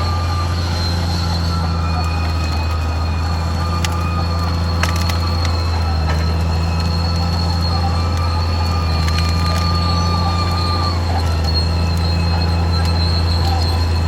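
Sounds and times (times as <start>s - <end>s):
bulldozer diesel drone: 0.0s - 14.0s.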